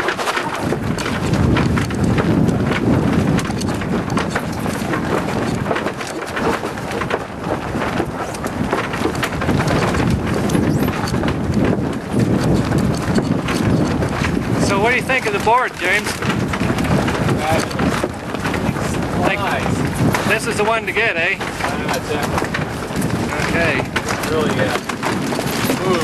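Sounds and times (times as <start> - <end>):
sail and deck gear rattling: 0.0 - 26.0
wind buffeting microphone: 0.0 - 26.0.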